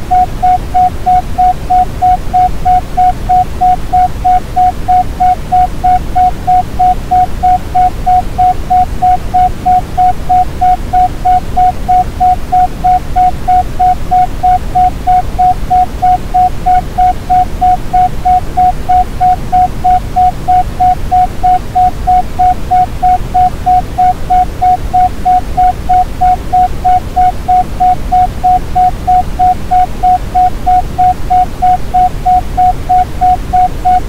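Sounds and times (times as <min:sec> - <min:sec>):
pulsing tone: 0:00.1 - 0:34.0.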